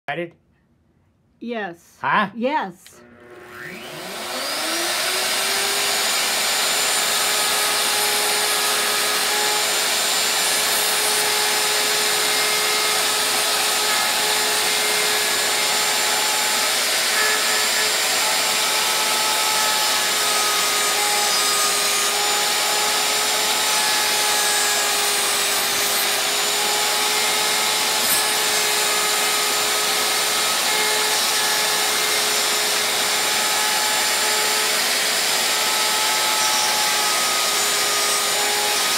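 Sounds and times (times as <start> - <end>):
electric router cutting wood: 2.9 - 38.9.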